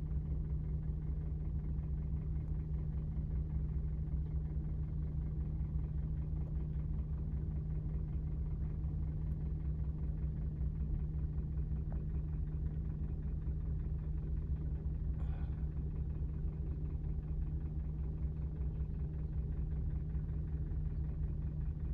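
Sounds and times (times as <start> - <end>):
engine rumble and hum: 0.0 - 21.9.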